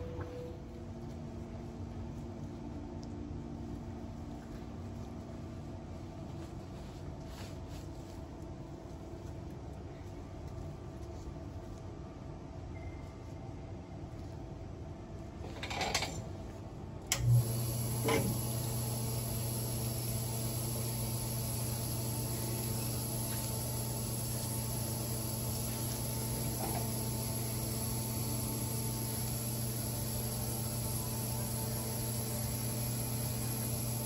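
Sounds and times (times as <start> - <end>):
pump humming and hissing: 0.0 - 13.5, 17.0 - 34.0.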